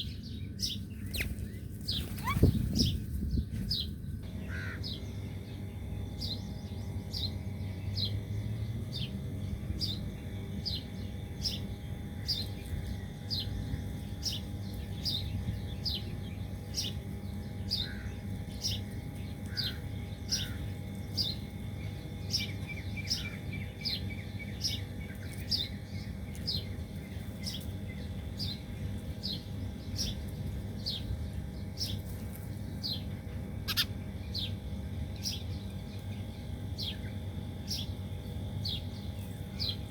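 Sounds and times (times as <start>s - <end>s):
small bird chirping: 0.0s - 9.2s, 9.8s - 39.9s.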